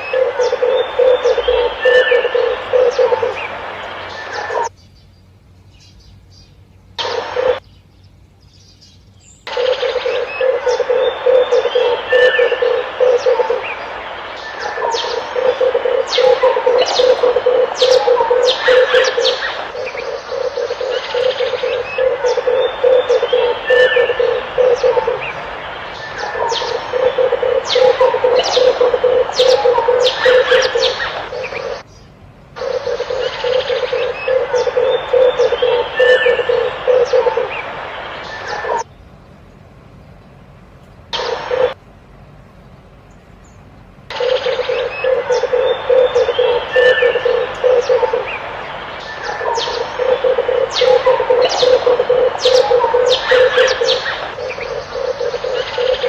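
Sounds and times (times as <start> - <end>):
dove pulsed cooing: 0.0 - 4.7, 7.0 - 7.6, 9.5 - 31.8, 32.6 - 38.9, 41.2 - 41.8, 44.1 - 56.0
small birds chirping: 0.0 - 41.8, 42.5 - 56.0.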